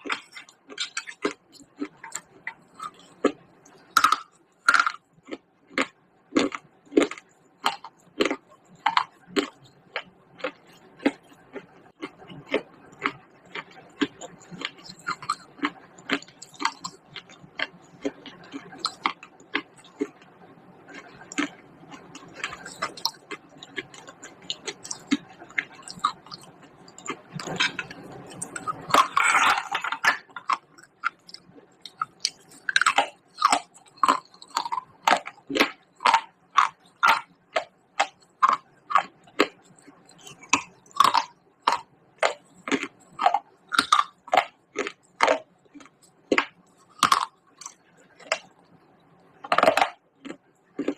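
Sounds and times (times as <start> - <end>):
clay pot pieces being chewed: 0.0 - 50.9.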